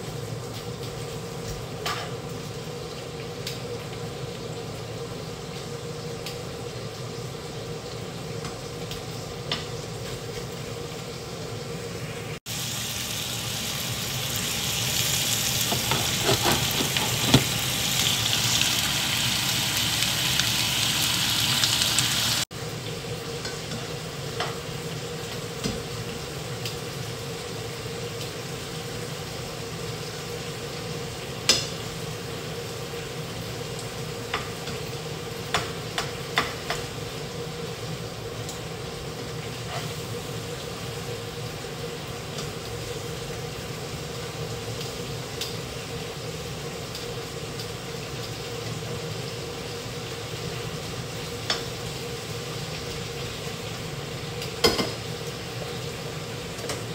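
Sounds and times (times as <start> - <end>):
meat sizzling in a frying pan: 0.0 - 56.9.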